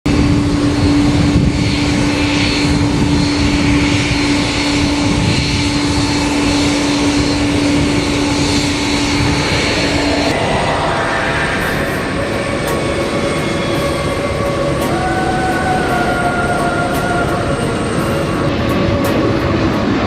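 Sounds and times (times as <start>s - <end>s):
jet engines running: 0.1s - 20.0s.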